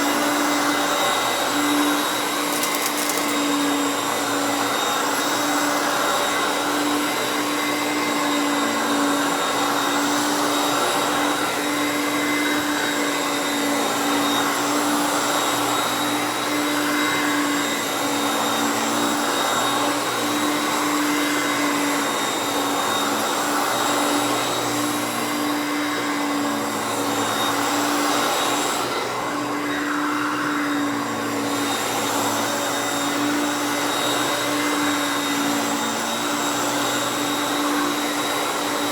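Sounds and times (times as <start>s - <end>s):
upright vacuum running: 0.0s - 38.9s.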